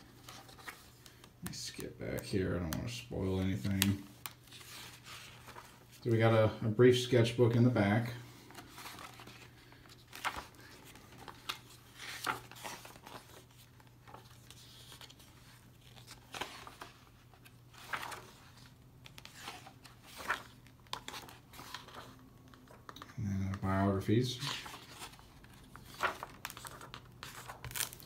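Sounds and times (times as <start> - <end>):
paper pages turning: 0.0 - 6.3, 8.4 - 28.0.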